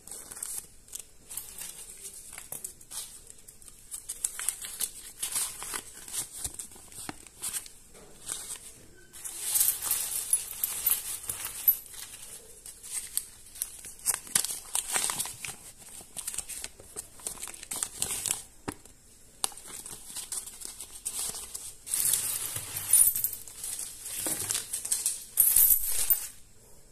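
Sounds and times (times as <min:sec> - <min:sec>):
paper banknotes rustling: 0:00.0 - 0:18.5, 0:19.3 - 0:26.3.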